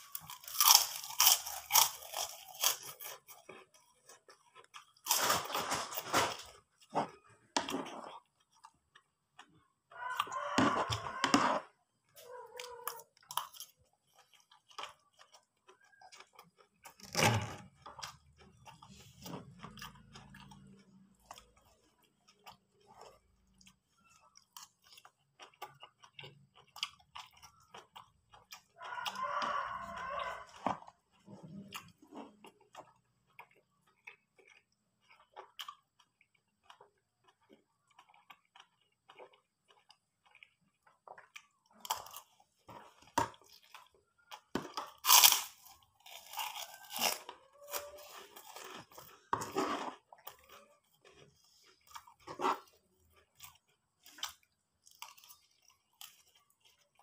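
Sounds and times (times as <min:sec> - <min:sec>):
cracker crunching: 0:00.0 - 0:57.0
person chewing food: 0:00.0 - 0:57.0.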